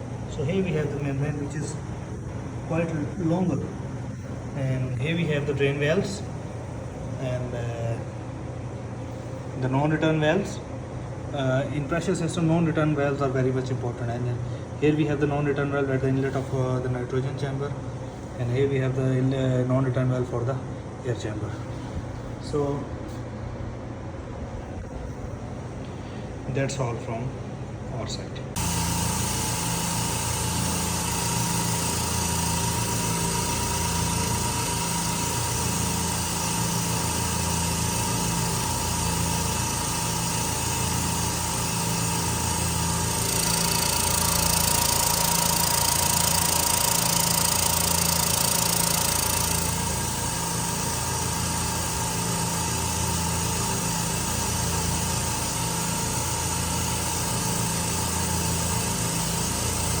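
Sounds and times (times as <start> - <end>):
air compressors humming: 0.0 - 19.2, 27.4 - 60.0.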